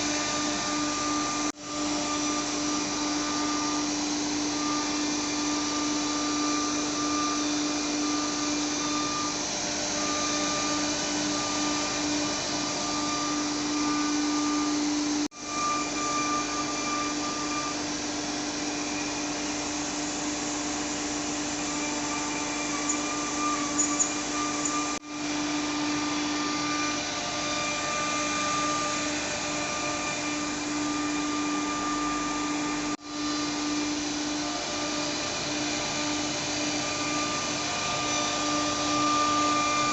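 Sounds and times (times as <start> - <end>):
router spindle whining carving wood: 0.0 - 39.9.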